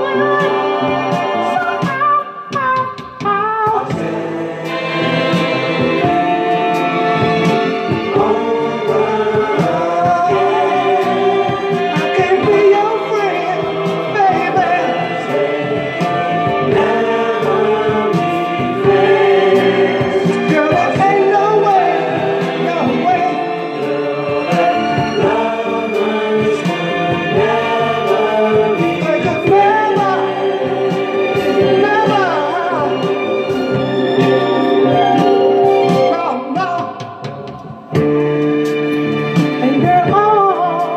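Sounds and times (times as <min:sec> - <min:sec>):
voices singing in harmony: 0:00.0 - 0:38.2
instrumental backing: 0:00.0 - 0:40.9.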